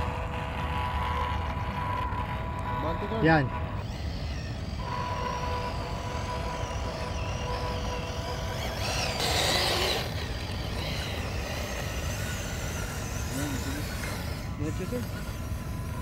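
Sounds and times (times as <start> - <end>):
electric motor and gear whine: 0.0 - 16.0.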